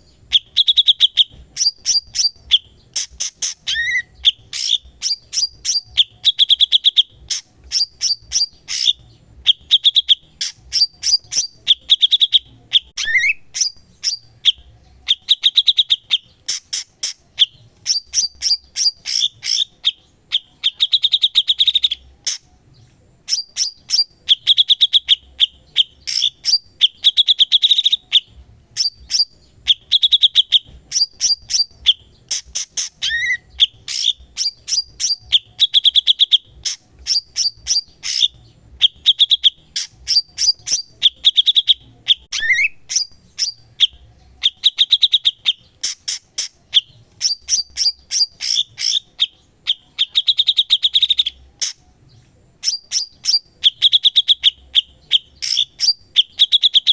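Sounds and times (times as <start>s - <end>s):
bulbul singing buzzy trills: 0.0s - 56.9s.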